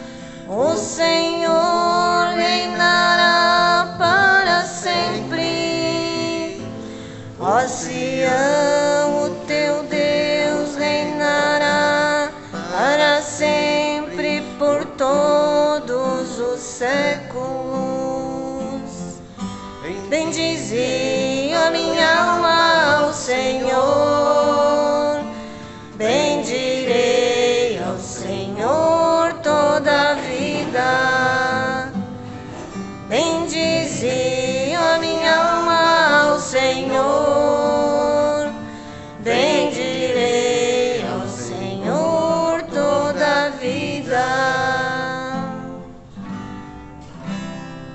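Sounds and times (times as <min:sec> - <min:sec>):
people singing: 0:00.0 - 0:46.1
strummed guitar: 0:00.0 - 0:47.9.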